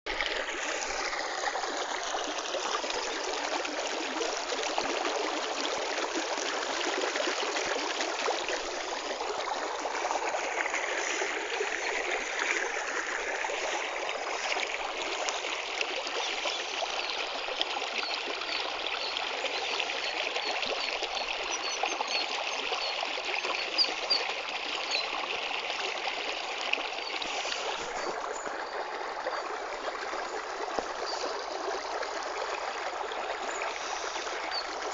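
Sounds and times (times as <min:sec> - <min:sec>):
running water flowing: 0:00.1 - 0:34.9.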